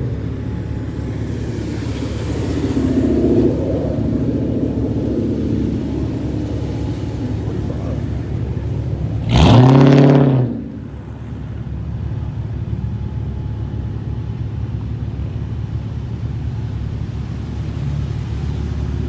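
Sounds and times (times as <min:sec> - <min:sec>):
low rumble of cars: 0:00.0 - 0:19.0.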